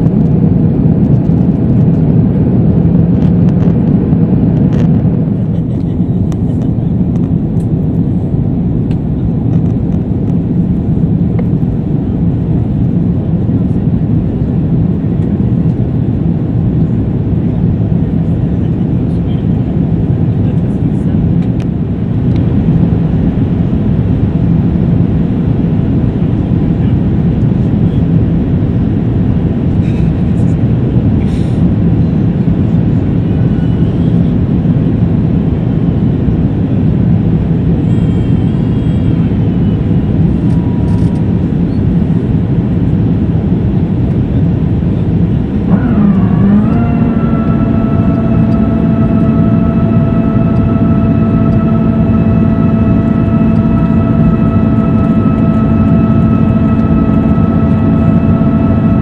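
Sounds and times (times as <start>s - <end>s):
airplane cabin engine roar: 0.0s - 59.0s
multi-toned whine: 0.0s - 59.0s.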